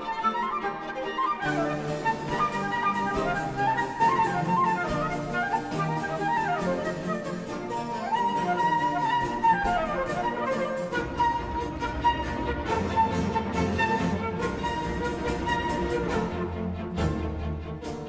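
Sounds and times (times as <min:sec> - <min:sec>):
instrumental background music: 0:00.0 - 0:18.0.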